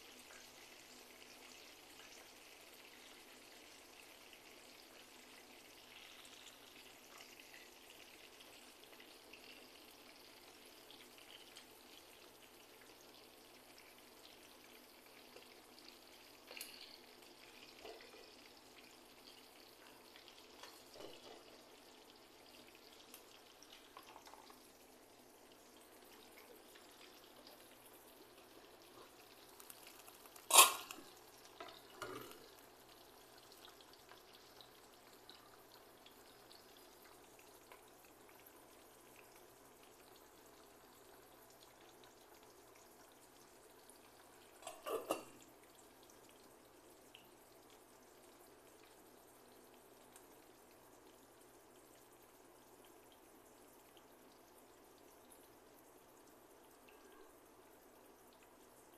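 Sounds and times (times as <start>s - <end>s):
fish sizzling in oil: 0.0s - 58.9s.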